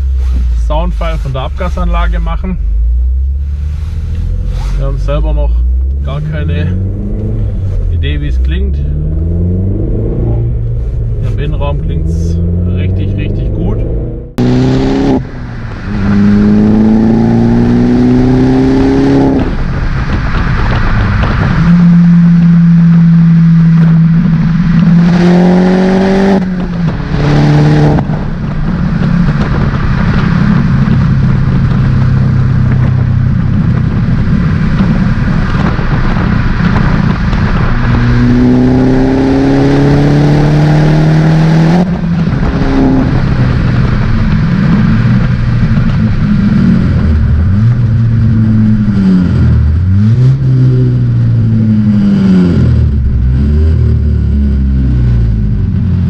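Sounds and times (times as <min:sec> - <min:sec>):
car engine revving through gears: 0:01.5 - 0:56.0.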